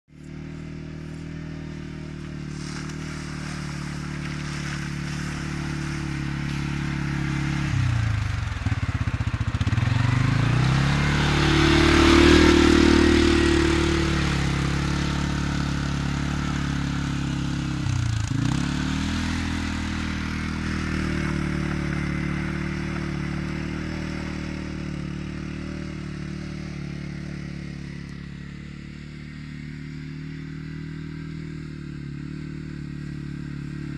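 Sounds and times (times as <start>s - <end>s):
atv engine passing by: 0.2s - 33.9s.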